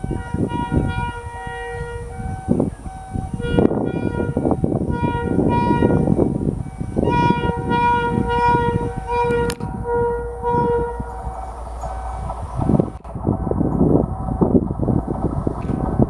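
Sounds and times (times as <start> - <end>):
horn short blasts: 0.0 - 13.0
wheels clattering on rails: 0.0 - 16.0.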